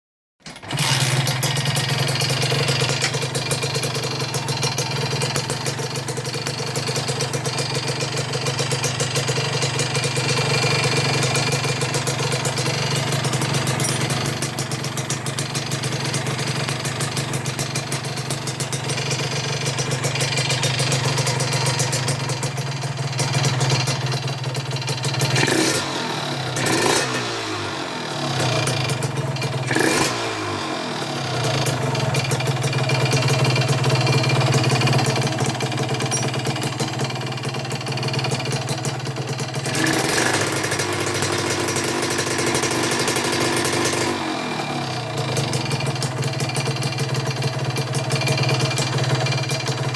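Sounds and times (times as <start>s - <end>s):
two-stroke motorcycle engine running: 0.6s - 49.9s.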